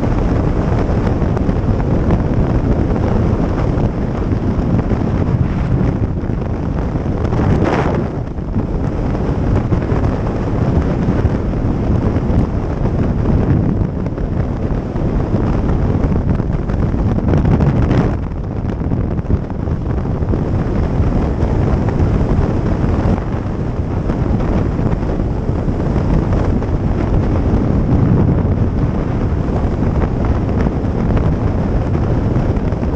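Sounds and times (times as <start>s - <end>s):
motorcycle low rumble: 0.0s - 32.9s
wind buffeting microphone: 0.0s - 32.9s.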